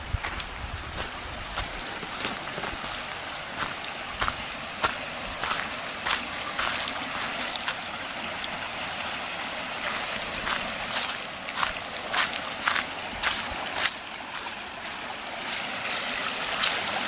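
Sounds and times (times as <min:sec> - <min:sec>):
waterfall rushing: 0:01.2 - 0:17.0
sharp water splashes: 0:02.1 - 0:17.0.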